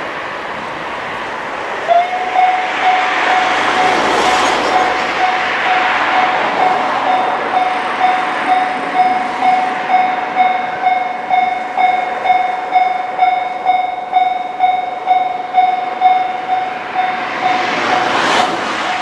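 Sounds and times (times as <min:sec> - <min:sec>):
railroad crossing bell ringing: 0:00.0 - 0:19.0
rushing noise: 0:00.0 - 0:19.0.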